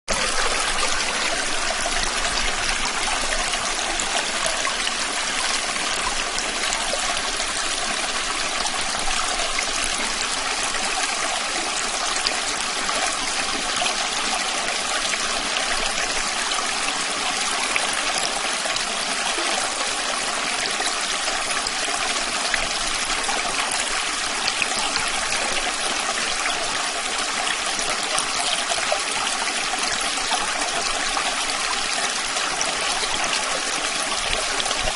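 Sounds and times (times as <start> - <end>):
stream trickling and babbling: 0.1 - 34.9.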